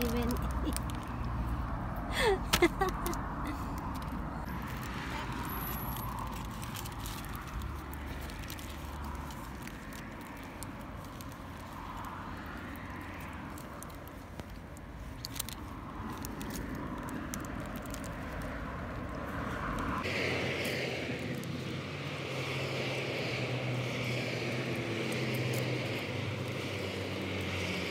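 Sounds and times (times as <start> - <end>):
traffic noise: 0.0 - 27.9
vehicles passing: 0.0 - 27.9.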